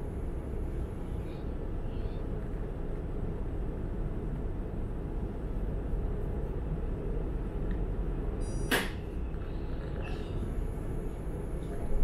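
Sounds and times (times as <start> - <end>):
low tram hum: 0.0 - 12.0.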